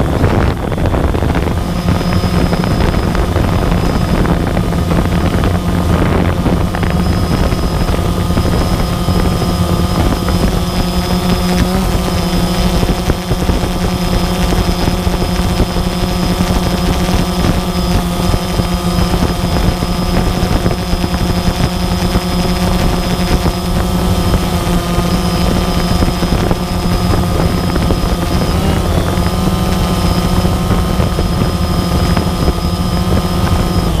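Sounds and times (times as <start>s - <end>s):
drone propellers whining: 0.0s - 34.0s
wind noise: 0.0s - 34.0s.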